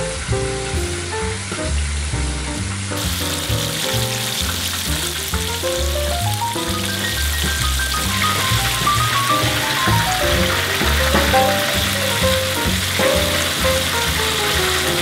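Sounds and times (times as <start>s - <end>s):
background music: 0.0s - 15.0s
chicken deep-frying in oil: 0.0s - 15.0s.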